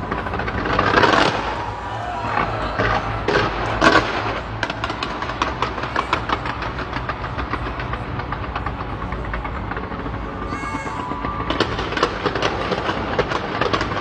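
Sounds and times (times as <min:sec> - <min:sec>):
low steady rumble: 0:00.0 - 0:13.8
fireworks crackling: 0:00.0 - 0:14.0.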